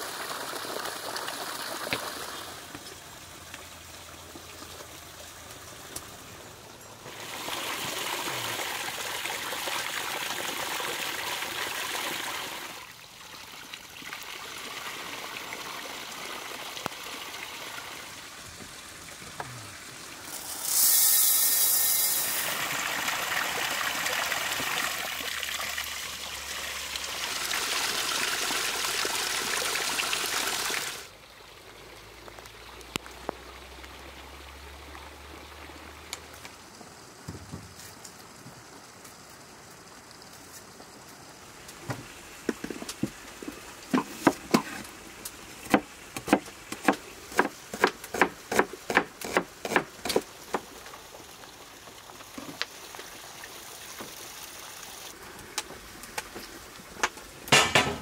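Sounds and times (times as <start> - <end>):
running and pouring water: 0.0 - 58.0.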